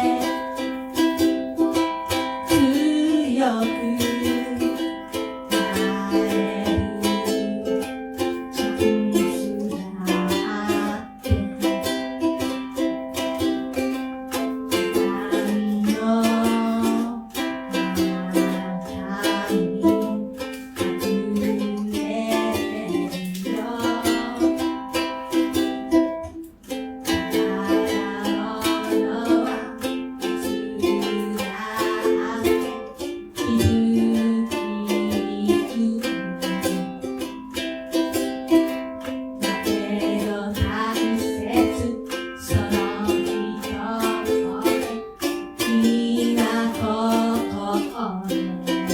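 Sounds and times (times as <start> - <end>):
ukulele strumming chords: 0.0 - 48.9.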